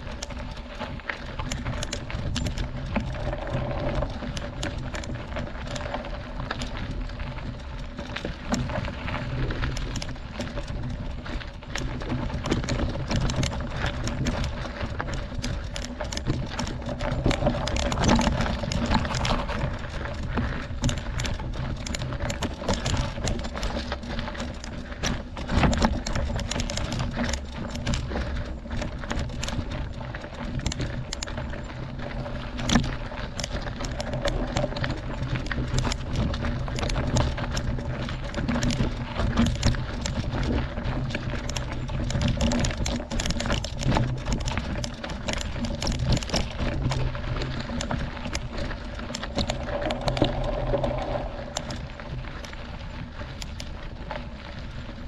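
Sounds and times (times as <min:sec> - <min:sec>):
bike rattling: 0:00.0 - 0:55.0
bike tyres crunching on gravel: 0:00.0 - 0:55.0.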